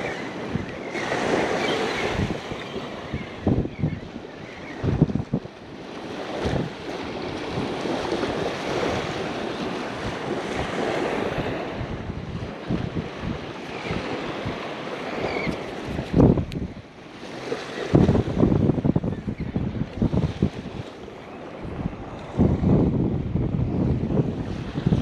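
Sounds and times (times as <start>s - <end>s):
surf washing on beach: 0.0s - 25.0s
wind buffeting microphone: 0.0s - 25.0s.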